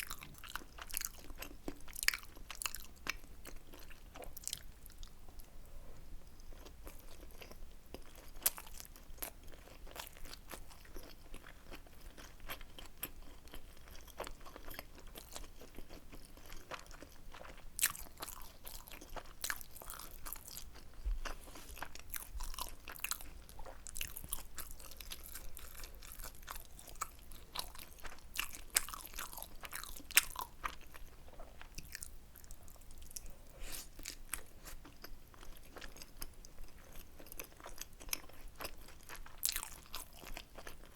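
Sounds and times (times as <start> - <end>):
close-miked chewing and biting: 0.0 - 5.5, 6.4 - 40.9.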